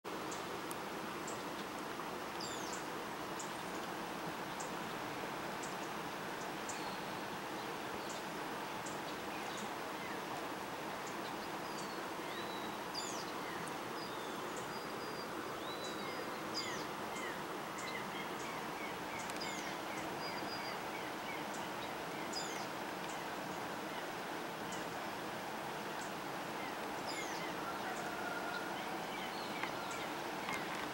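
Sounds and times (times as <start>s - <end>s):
steady hiss: 0.1s - 30.9s.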